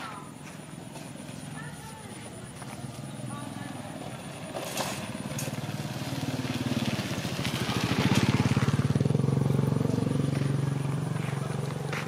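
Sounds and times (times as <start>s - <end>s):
small engine pulsing: 0.3s - 12.0s.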